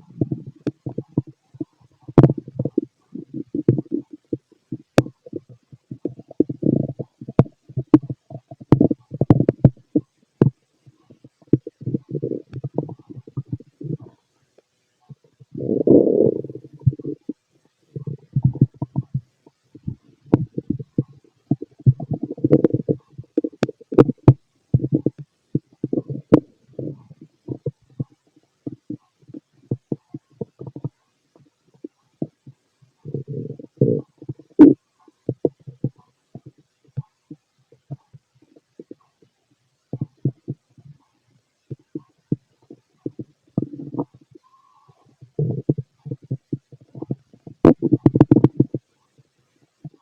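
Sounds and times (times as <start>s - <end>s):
stomach gurgling: 0.0s - 50.0s.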